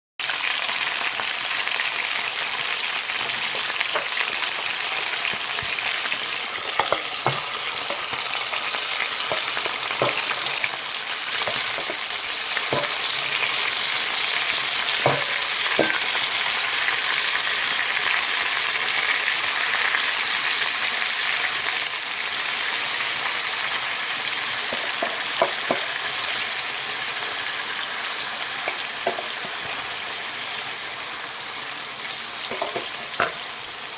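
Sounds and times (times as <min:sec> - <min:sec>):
fish sizzling in a pan: 0:00.2 - 0:33.9.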